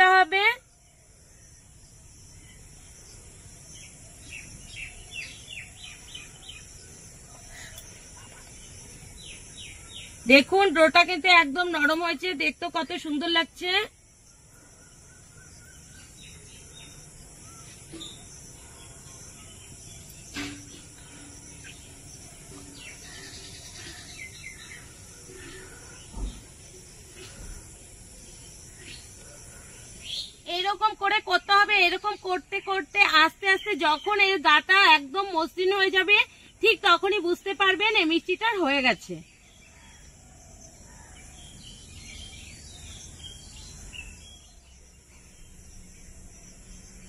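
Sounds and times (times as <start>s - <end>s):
bird chirping: 0.9s - 37.2s, 40.6s - 47.0s.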